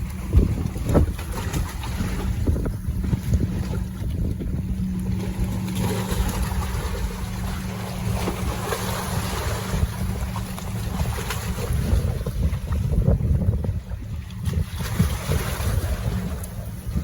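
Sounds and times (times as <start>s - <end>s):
steady low hum: 0.0s - 17.0s
wind buffeting microphone: 0.0s - 17.0s.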